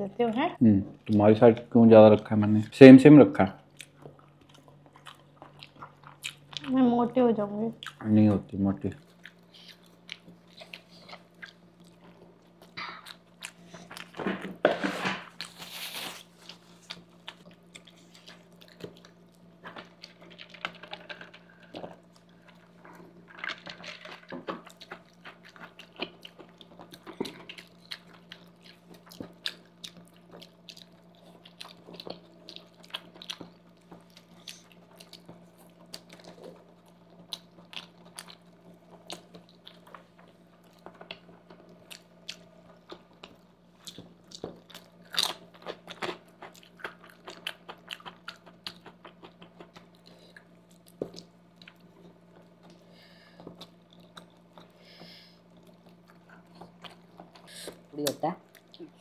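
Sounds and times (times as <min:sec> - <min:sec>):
faint steady hum: 0:00.0 - 0:59.0
people chewing pasta: 0:03.4 - 0:06.9, 0:07.7 - 0:59.0.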